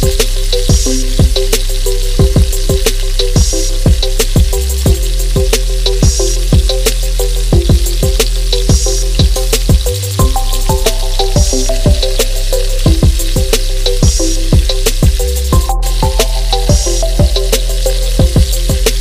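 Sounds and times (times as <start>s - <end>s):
background music with steady beat: 0.0s - 19.0s
chicken sizzling in oil: 0.0s - 19.0s.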